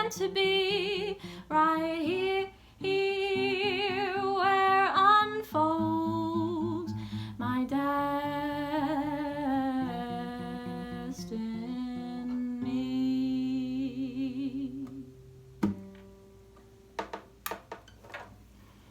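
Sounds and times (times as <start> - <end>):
plucked acoustic guitar: 0.0 - 18.1.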